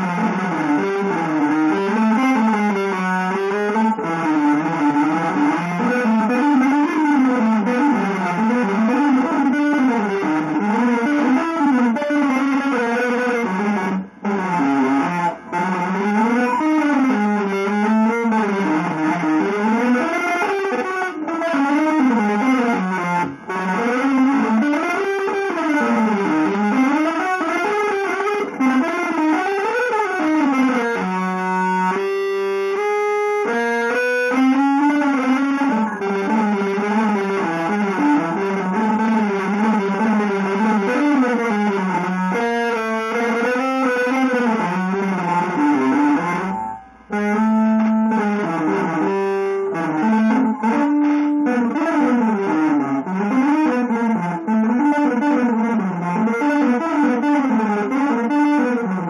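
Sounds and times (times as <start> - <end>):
electric guitar improvisation: 0.0 - 59.0.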